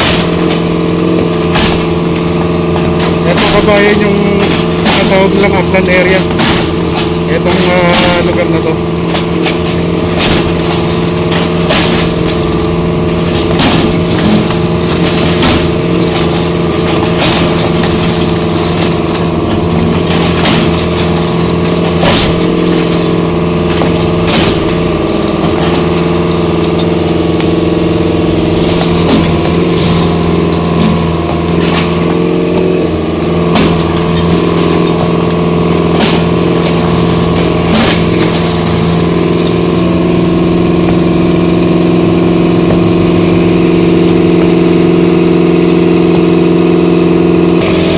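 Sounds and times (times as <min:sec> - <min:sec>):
debris knocking and crunching: 0:00.0 - 0:47.9
heavy diesel engine under load: 0:00.0 - 0:47.9.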